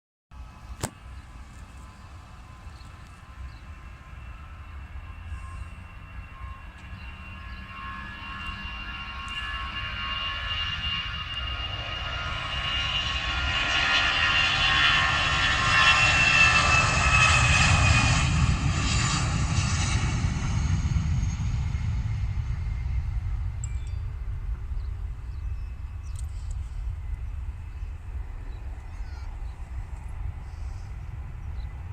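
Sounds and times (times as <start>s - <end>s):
jet engines rumbling and whining: 0.4s - 31.9s.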